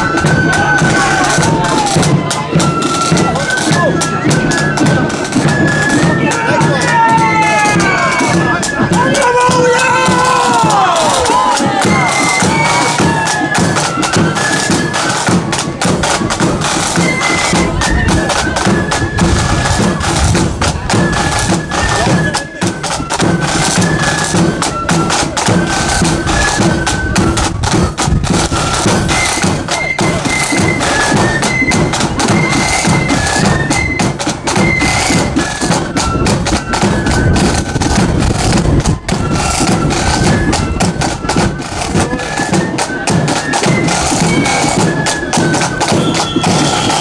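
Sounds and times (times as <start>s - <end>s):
marching flute band: 0.0s - 47.0s
snare and bass drums: 0.0s - 47.0s.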